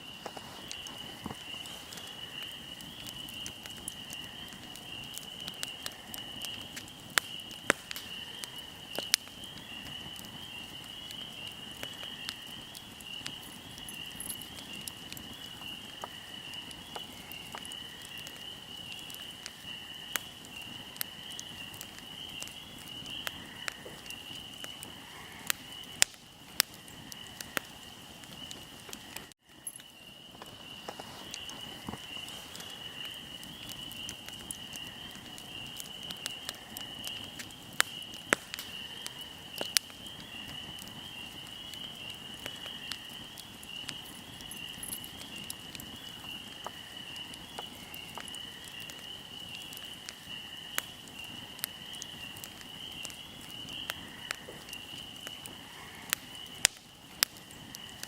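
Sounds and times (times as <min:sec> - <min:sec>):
crickets chirping: 0:00.0 - 0:58.0
fire crackling and popping: 0:00.0 - 0:58.0.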